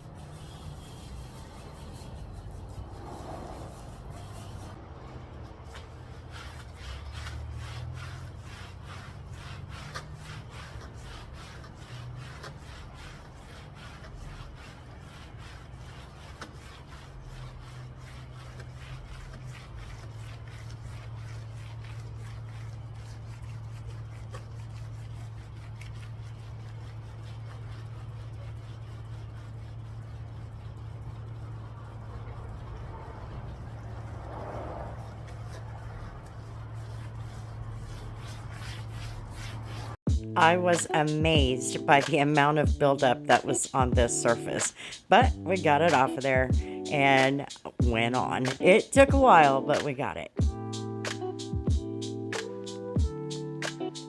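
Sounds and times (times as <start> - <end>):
clay towel scratching car paint: 0.0 - 50.4.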